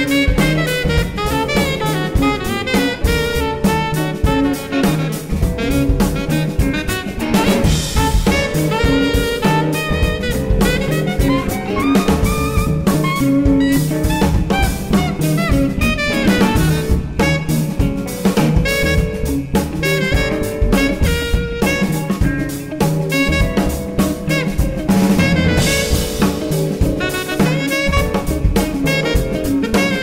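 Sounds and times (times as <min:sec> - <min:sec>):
drum kit and cymbals: 0:00.0 - 0:30.0
jazz band melody: 0:00.0 - 0:30.0.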